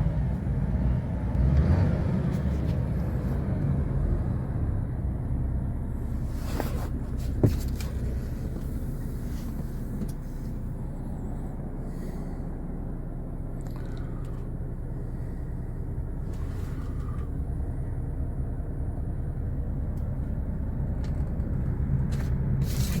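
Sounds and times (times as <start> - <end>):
diesel truck engine rumbling: 0.0 - 23.0.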